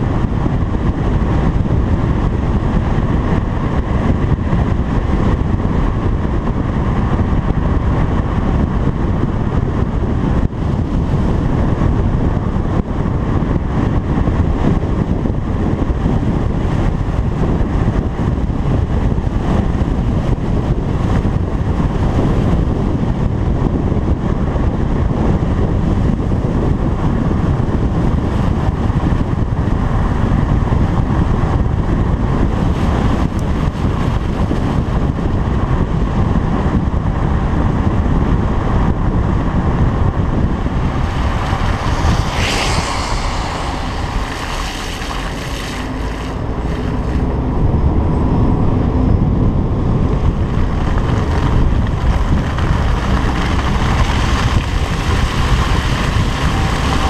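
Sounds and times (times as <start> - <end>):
road and engine rumble: 0.0 - 57.0
wind rushing over camera: 0.0 - 57.0.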